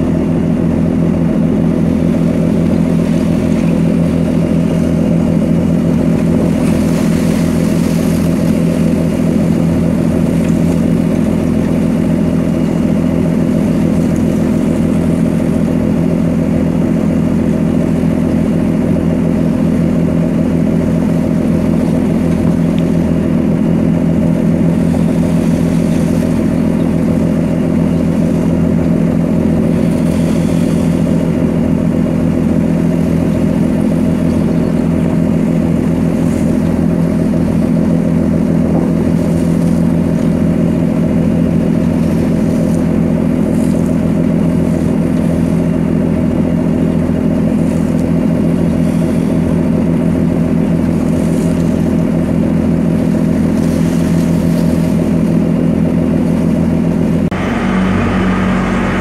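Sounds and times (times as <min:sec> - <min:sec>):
diesel engines droning: 0:00.0 - 0:59.0.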